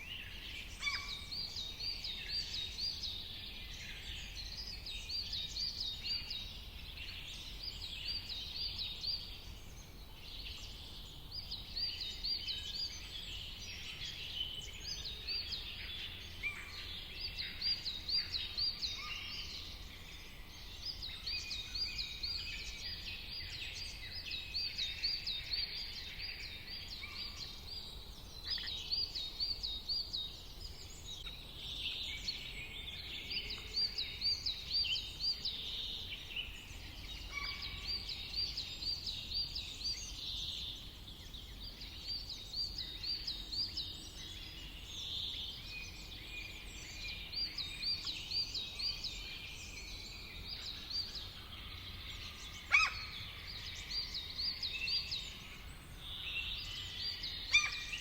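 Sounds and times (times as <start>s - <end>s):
birds chirping softly: 0.0s - 58.0s.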